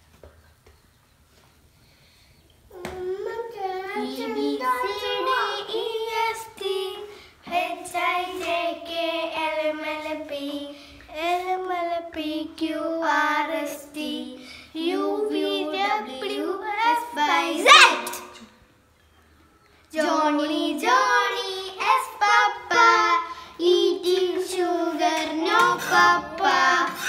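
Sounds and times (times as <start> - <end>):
child singing: 2.7 - 18.1, 19.9 - 27.0.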